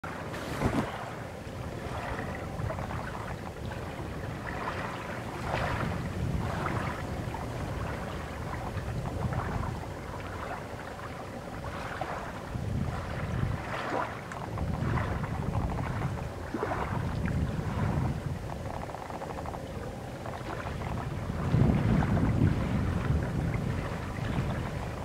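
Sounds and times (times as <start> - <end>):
water lapping and splashing: 0.0 - 25.0
wind rumbling on microphone: 0.0 - 25.0.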